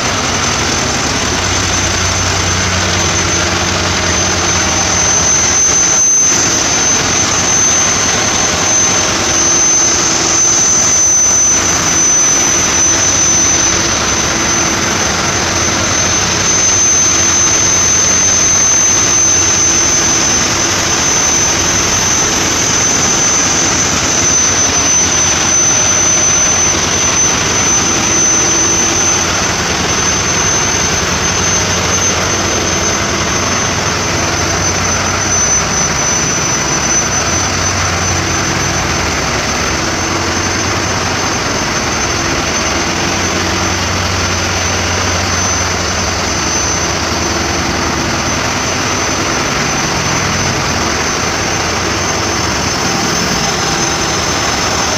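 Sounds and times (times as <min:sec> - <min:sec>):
diesel engine running: 0:00.0 - 0:54.9
high-pitched whine: 0:00.0 - 0:54.9.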